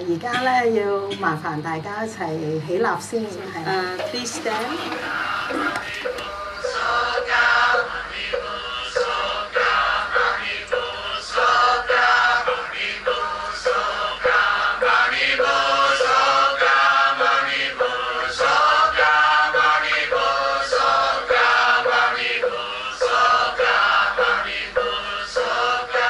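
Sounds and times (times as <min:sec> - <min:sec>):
group chanting to steady beat: 0:03.2 - 0:26.0.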